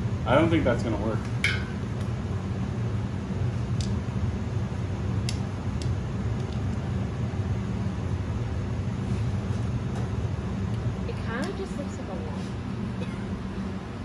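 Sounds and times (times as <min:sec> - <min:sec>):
ventilation machinery hum: 0:00.0 - 0:14.0.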